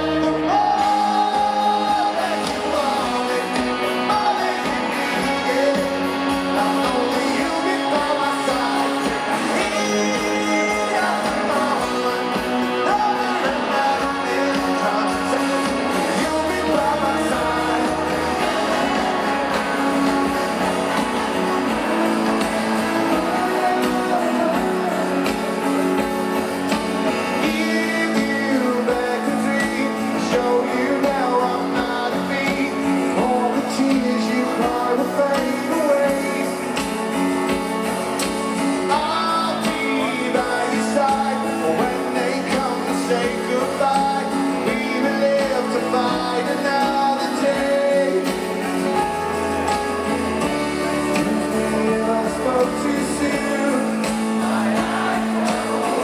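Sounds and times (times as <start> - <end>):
guitars: 0.0 - 56.0
live rock band playing: 0.0 - 56.0.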